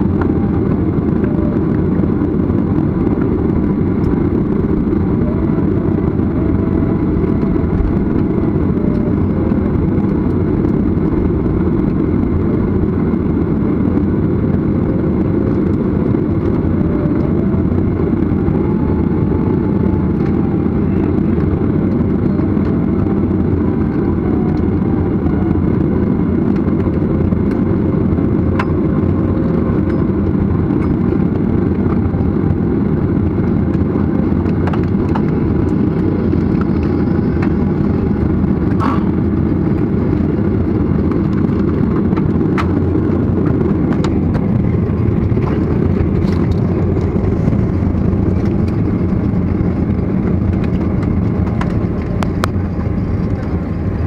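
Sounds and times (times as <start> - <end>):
jet engines low rumble: 0.0 - 54.0.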